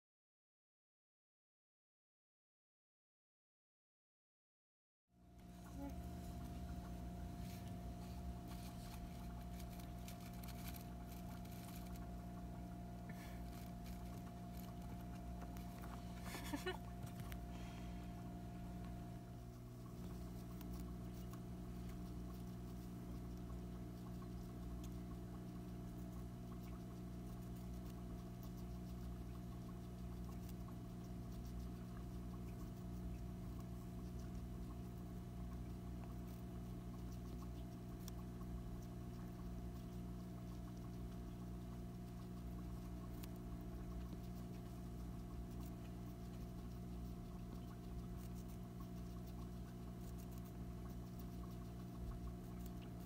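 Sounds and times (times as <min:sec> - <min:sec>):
steady low hum: 0:05.2 - 0:53.0
hamster chewing: 0:05.4 - 0:53.0.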